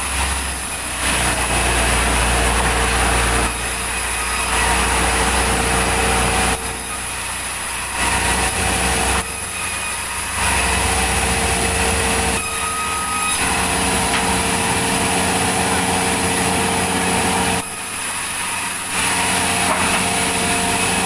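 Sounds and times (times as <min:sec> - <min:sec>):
sawmill saw cutting logs: 0:00.0 - 0:21.0.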